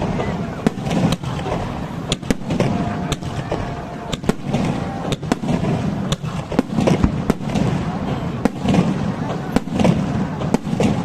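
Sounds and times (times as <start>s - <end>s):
fireworks bangs: 0.0s - 11.0s
rumble of fireworks bursts: 0.0s - 11.0s.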